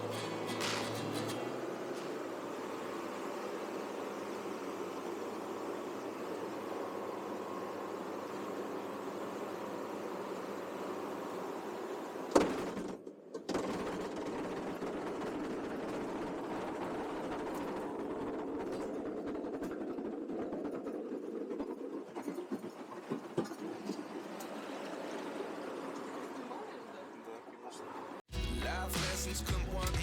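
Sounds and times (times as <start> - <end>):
aircraft engine and propeller: 0.0 - 26.9.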